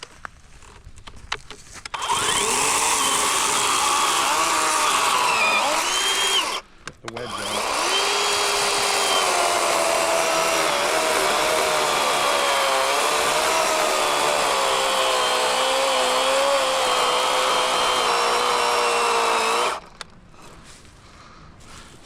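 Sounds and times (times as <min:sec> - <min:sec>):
electric chainsaw cutting log: 0:01.9 - 0:20.1.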